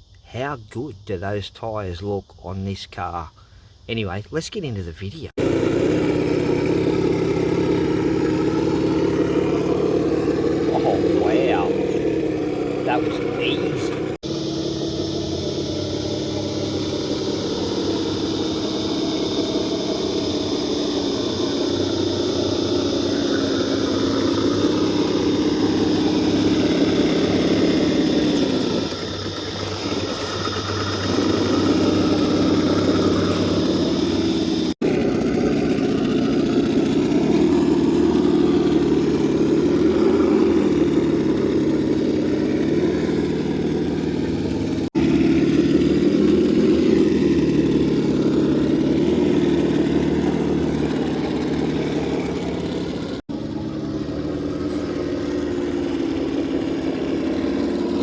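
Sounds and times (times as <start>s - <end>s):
electric motor and gearbox whining: 4.9s - 58.0s.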